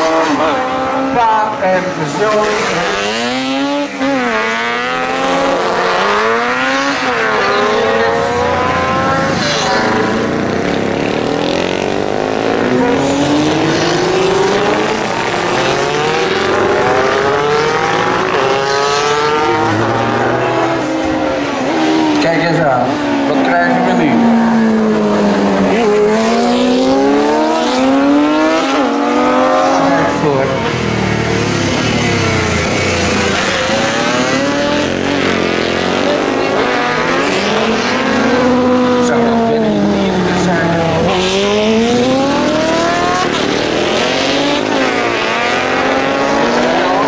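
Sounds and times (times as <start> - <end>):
motorcycle engines accelerating: 0.0 - 47.0.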